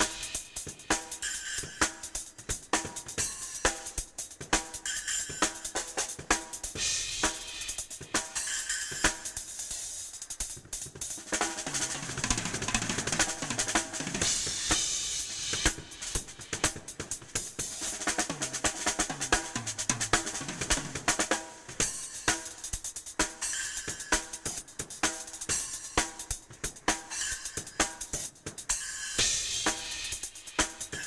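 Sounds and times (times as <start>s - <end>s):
drum kit solo: 0.0s - 31.0s.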